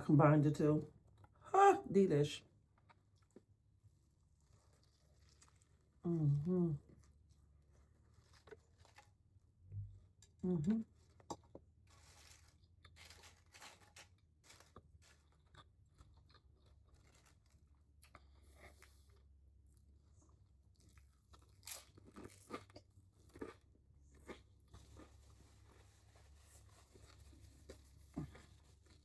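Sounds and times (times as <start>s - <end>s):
person chewing food: 2.6s - 29.0s.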